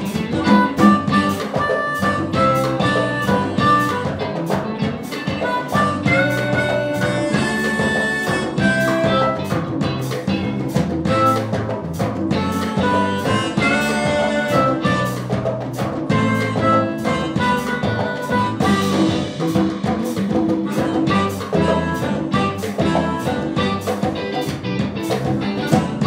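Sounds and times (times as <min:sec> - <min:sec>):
drum kit beat: 0:00.0 - 0:26.0
harmonica melody: 0:00.0 - 0:26.0
saxophone melody: 0:00.0 - 0:26.0.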